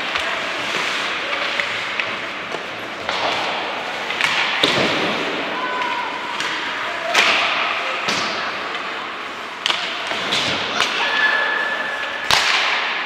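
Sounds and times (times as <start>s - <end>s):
hockey sticks and puck knocking: 0.0s - 11.4s, 12.0s - 13.0s
rink hubbub: 0.0s - 13.0s.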